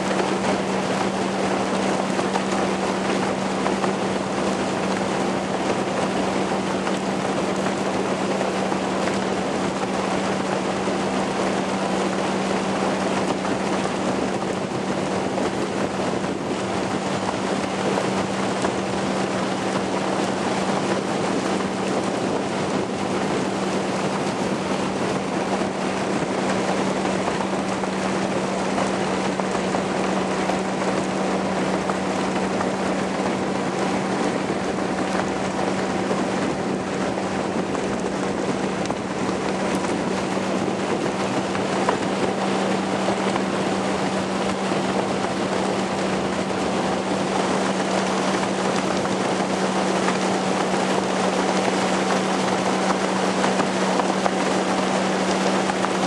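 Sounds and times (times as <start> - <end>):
motorboat engine hum: 0.0 - 56.0
rush of wind and water: 0.0 - 56.0
wind buffeting microphone: 0.0 - 56.0.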